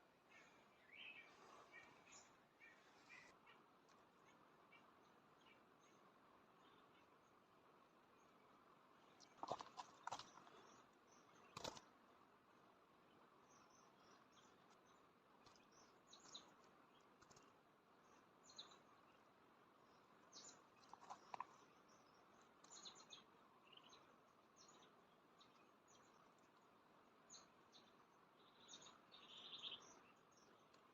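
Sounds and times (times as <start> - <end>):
low steady hiss: 0.0 - 30.9.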